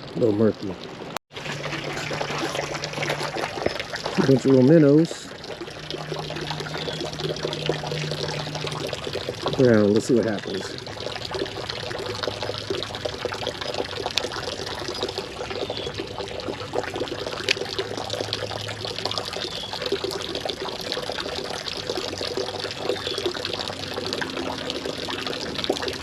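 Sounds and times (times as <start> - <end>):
creek water trickling over rocks: 0.0 - 26.0.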